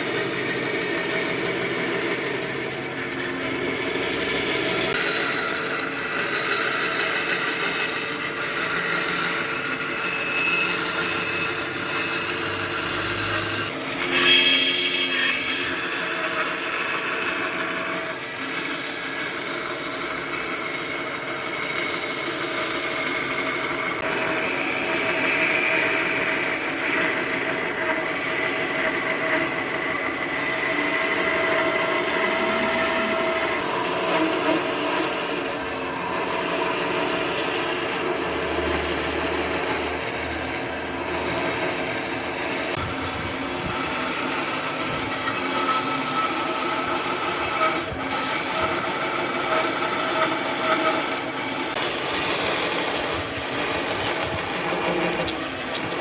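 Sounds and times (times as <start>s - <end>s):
power tool running on wood: 0.0s - 56.0s.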